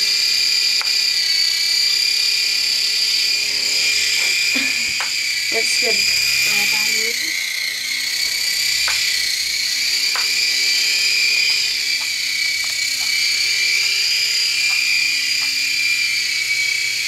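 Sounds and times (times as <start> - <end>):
toy helicopter whine: 0.0 - 17.0.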